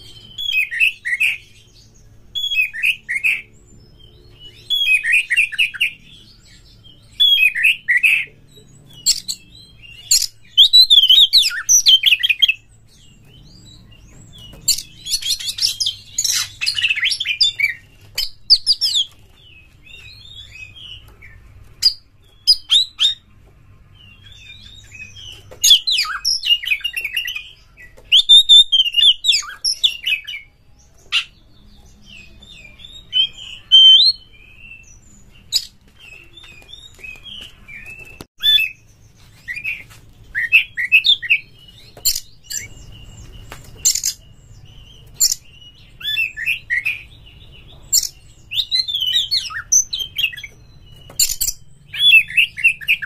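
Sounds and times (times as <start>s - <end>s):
magpie-robin singing: 0.0s - 53.0s.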